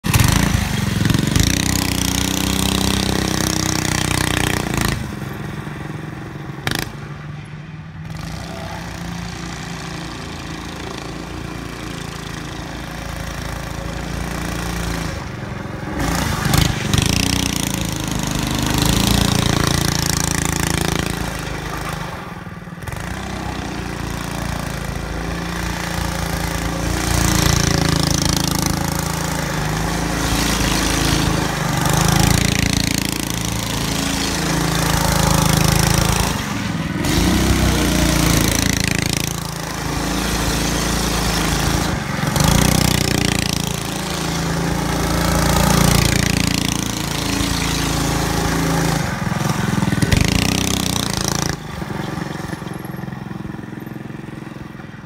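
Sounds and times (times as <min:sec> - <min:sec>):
small engine revving: 0:00.0 - 0:05.4, 0:08.0 - 0:54.7.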